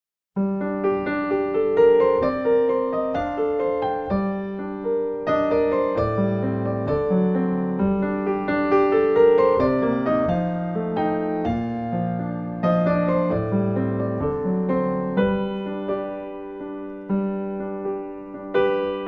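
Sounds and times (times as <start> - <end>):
solo piano music: 0.4 - 19.0.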